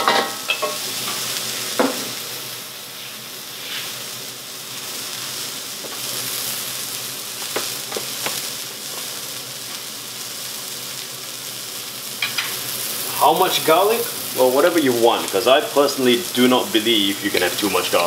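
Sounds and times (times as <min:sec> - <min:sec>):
chilli sizzling in hot oil: 0:00.0 - 0:18.0.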